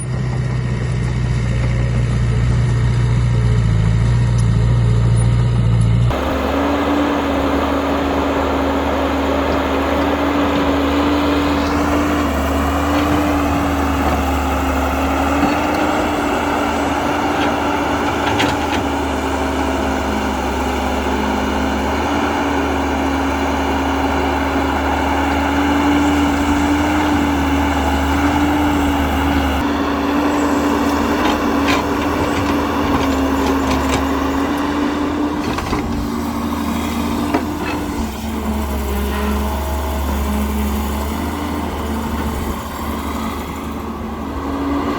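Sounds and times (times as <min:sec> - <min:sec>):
toy excavator motors whining: 0:06.1 - 0:44.9.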